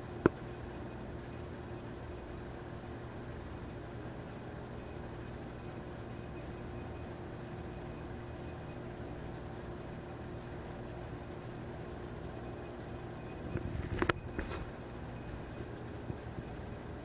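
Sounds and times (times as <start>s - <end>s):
faint constant tone: 0.0s - 17.0s
low hum and hiss: 0.0s - 17.0s.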